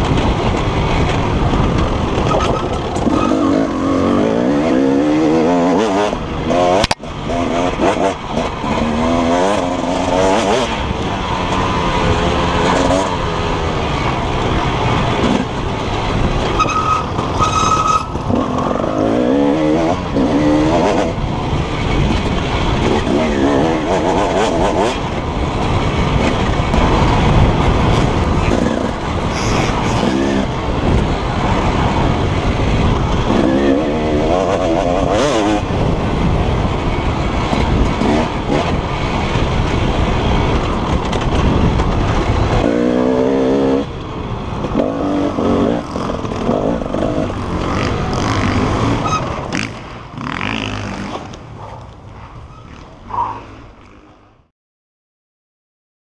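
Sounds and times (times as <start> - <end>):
two-stroke motorcycle engine revving: 0.0 - 51.5.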